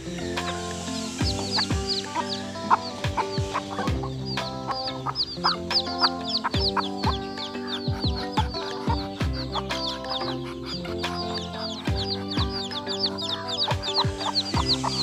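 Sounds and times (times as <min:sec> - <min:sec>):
background music of held notes: 0:00.0 - 0:15.0
chickens calling: 0:00.0 - 0:15.0.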